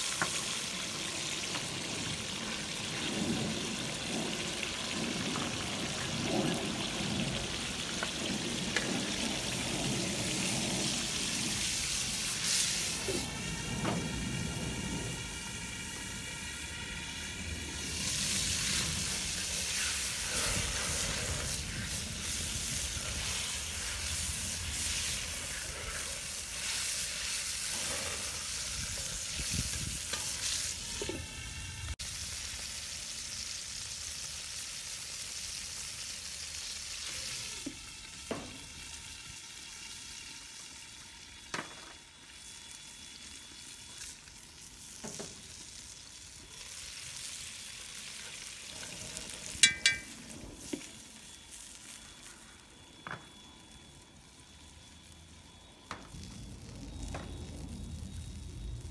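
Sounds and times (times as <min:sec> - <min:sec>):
sauce sizzling in a wok: 0:00.0 - 0:58.9.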